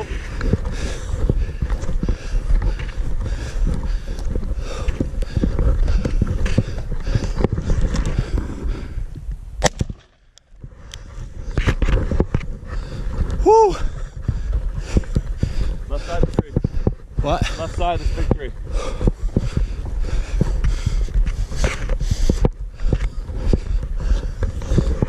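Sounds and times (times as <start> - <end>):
camera rubbing rumble: 0.0 - 9.4, 10.5 - 25.0.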